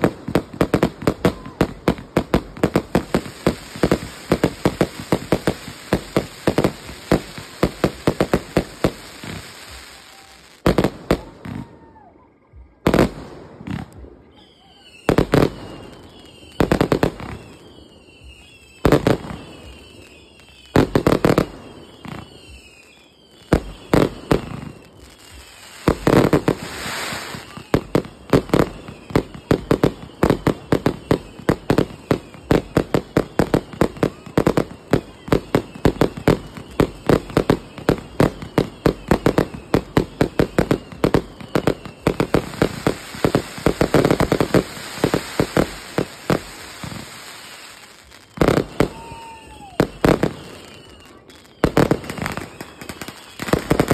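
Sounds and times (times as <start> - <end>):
firework bangs: 0.0 - 11.9, 15.0 - 53.9
falling firework whistles: 0.0 - 53.9
firework crackles: 0.0 - 53.9.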